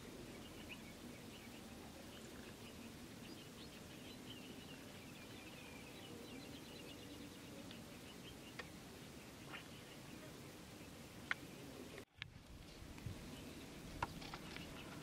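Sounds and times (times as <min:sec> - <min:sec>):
low steady background noise: 0:00.0 - 0:15.0
small birds chirping: 0:00.0 - 0:15.0.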